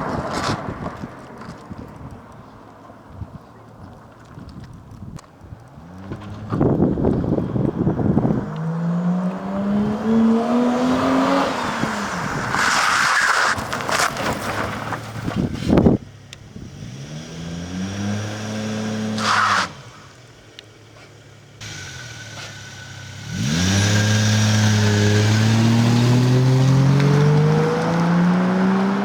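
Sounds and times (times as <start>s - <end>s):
car engine accelerating: 5.6s - 29.0s.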